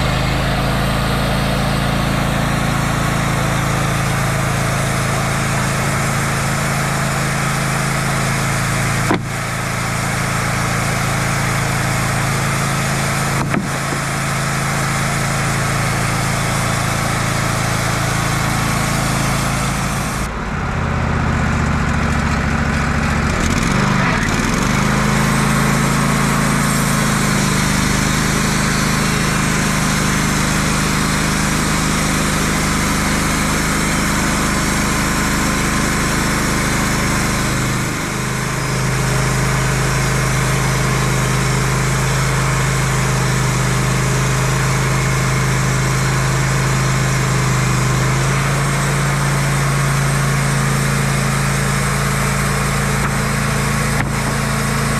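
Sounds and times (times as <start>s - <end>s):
sawmill hiss: 0.0s - 20.4s, 22.6s - 54.9s
band sawmill engine hum: 0.0s - 54.9s.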